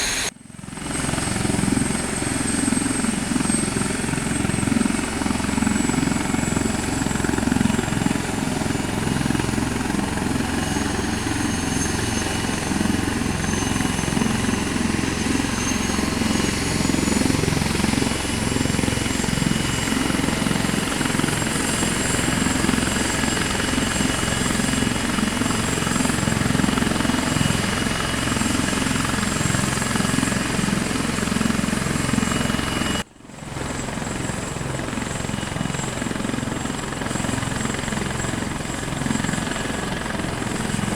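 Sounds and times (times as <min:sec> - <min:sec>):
helicopter flying: 0:00.0 - 0:40.9.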